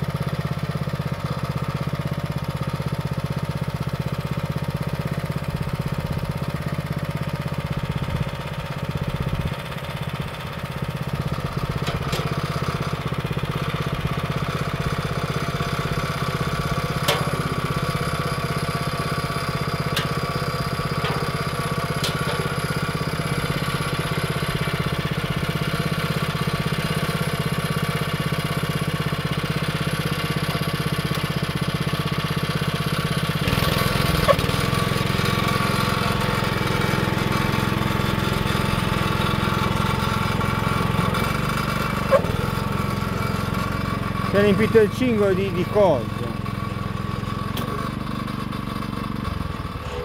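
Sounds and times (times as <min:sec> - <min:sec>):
small petrol engine: 0:00.0 - 0:50.0.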